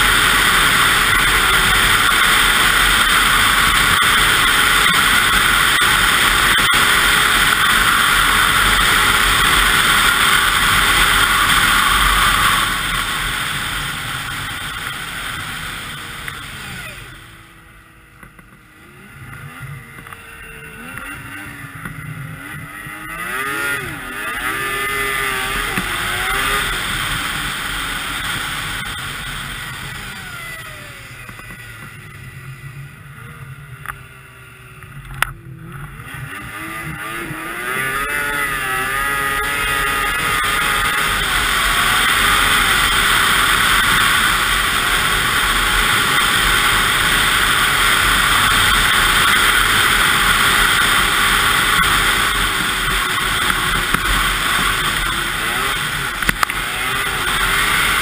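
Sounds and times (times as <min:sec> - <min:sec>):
snowmobile two-stroke engine: 0:00.0 - 0:58.0.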